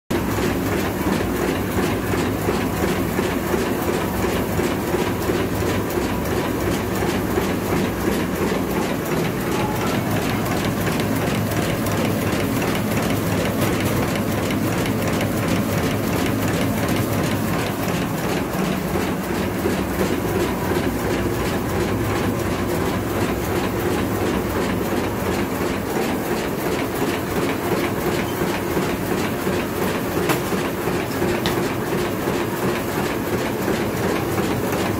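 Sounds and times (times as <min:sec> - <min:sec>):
machine hum: 0:00.2 - 0:34.6
mechanical clatter of machine strokes: 0:00.2 - 0:34.9.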